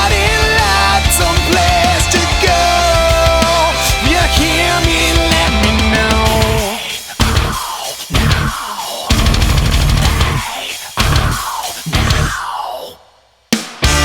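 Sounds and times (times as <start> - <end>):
accented drum and band hits: 0.0 - 12.4, 13.5 - 14.0
heavy rock music: 0.0 - 12.9, 13.6 - 14.0.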